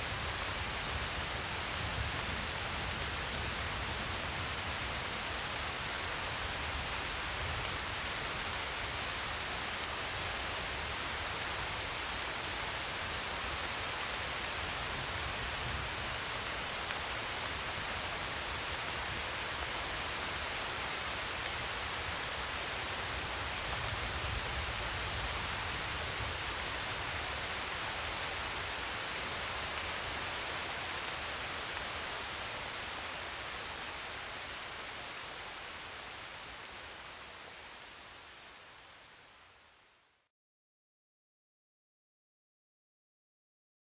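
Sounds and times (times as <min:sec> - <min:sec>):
dense rain hiss: 0:00.0 - 0:40.3.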